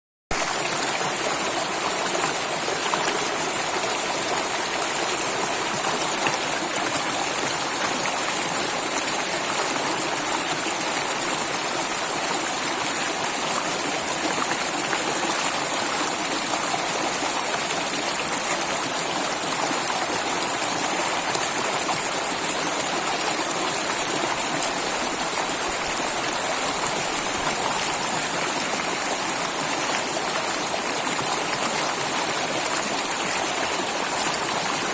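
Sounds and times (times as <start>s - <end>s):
stream water flowing: 0.3s - 34.9s.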